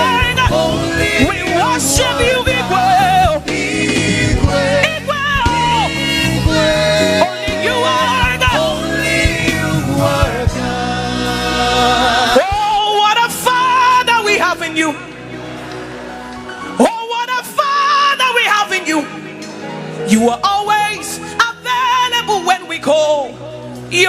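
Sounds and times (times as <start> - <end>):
gospel singing over a band: 0.0 - 24.0.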